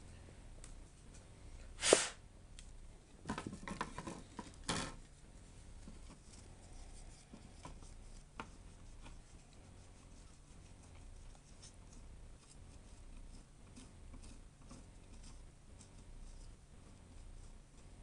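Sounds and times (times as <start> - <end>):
scratching and rubbing: 3.4 - 18.0.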